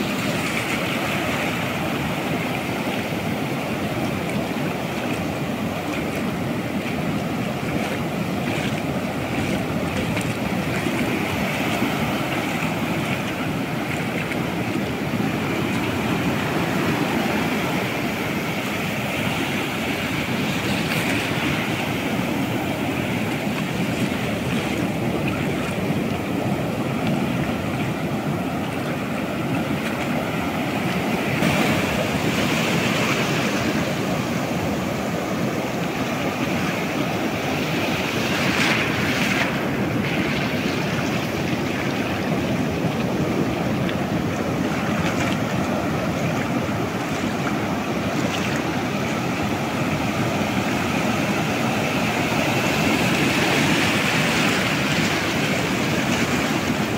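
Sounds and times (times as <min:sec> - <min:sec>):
ocean surf breaking: 0:00.0 - 0:56.9
wind on microphone: 0:00.0 - 0:56.9.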